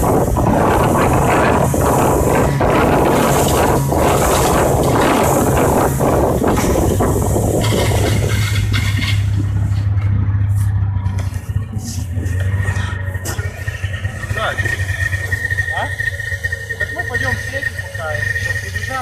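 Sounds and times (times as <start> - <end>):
loud rushing noise: 0.0 - 19.0
motor engine running: 0.0 - 19.0.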